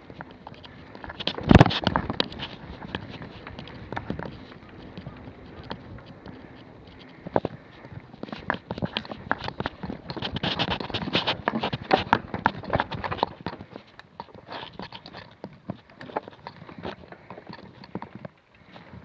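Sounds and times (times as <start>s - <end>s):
bike clicks: 0.0s - 19.0s
mountain bike rattling: 0.0s - 19.0s.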